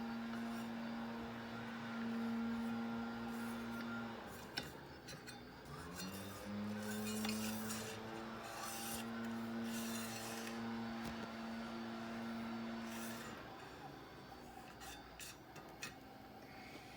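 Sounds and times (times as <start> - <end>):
servo motor electrical hum: 0.0 - 15.5.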